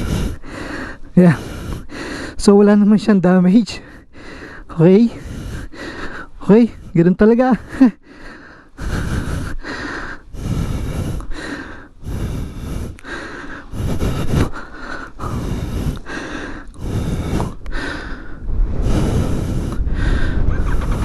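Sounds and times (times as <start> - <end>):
person breathing hard: 0.0 - 2.5, 3.8 - 21.0.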